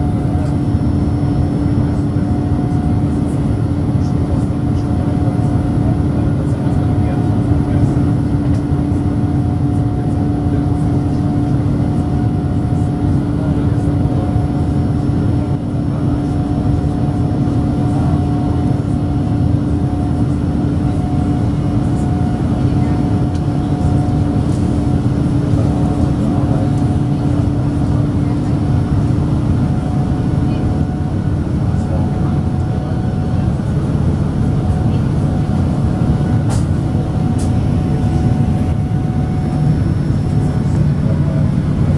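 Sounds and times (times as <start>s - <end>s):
jet engines roaring in cabin: 0.0s - 41.9s.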